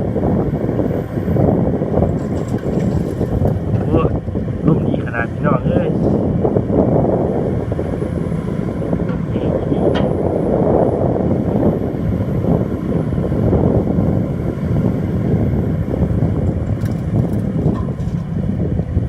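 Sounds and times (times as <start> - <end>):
excavator diesel rumble: 0.0 - 19.0.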